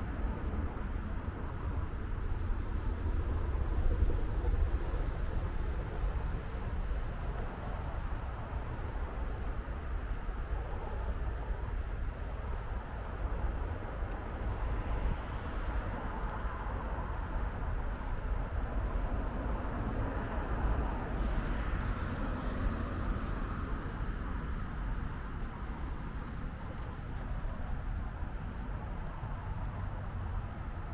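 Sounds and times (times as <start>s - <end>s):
city ambience low rumble: 0.0s - 30.9s.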